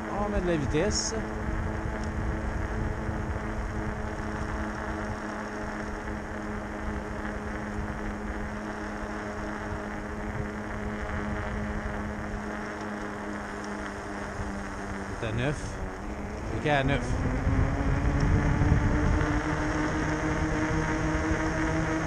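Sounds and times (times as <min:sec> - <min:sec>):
electric bike motor hum: 0:00.0 - 0:22.0
low rushing noise: 0:00.0 - 0:22.0.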